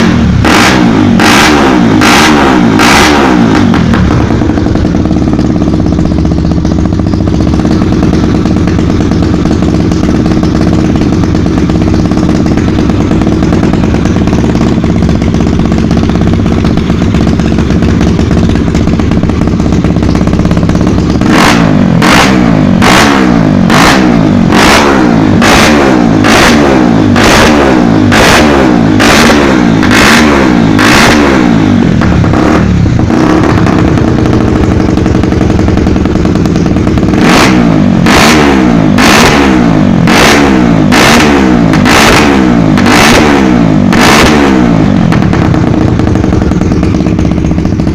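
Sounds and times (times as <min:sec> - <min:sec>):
exhaust cracks: 0:00.0 - 0:47.9
motorcycle engine revving: 0:00.0 - 0:47.9.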